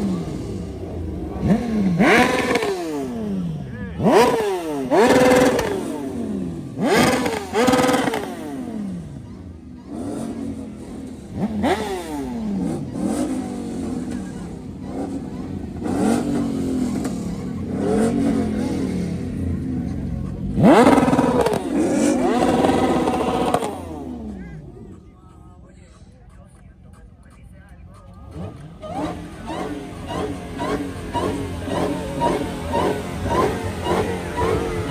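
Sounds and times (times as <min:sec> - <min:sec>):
car engine revving: 0:00.0 - 0:25.8, 0:26.4 - 0:34.9.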